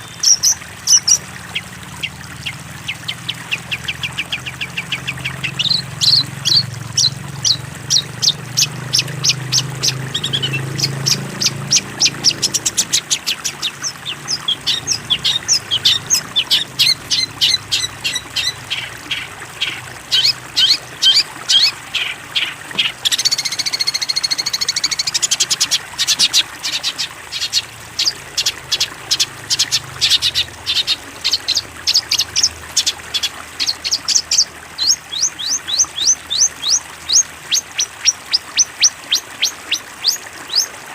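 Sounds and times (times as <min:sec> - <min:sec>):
bird chirping song: 0:00.0 - 0:40.8.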